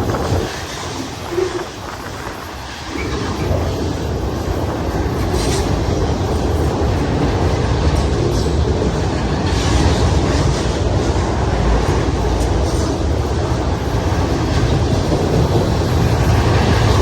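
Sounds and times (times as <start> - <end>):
freight train wheels rumbling: 0.0 - 17.0
train cars clattering: 0.0 - 17.0.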